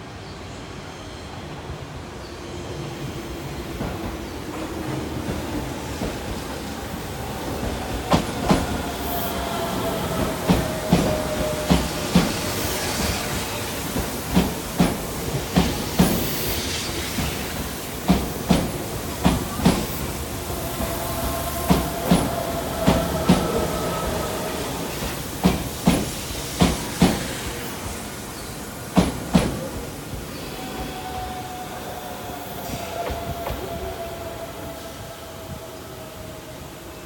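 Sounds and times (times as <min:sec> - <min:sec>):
train rumble: 0:02.8 - 0:37.0.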